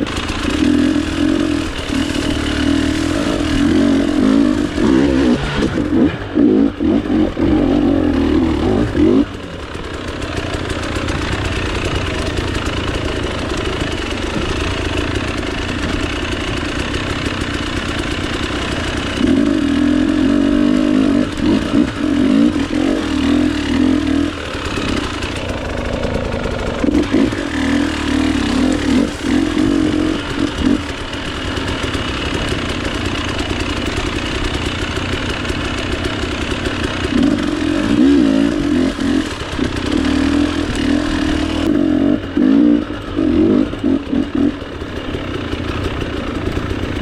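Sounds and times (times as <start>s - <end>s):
dirt bike engine idling: 0.0s - 47.0s
engine throttle blips: 0.0s - 47.0s.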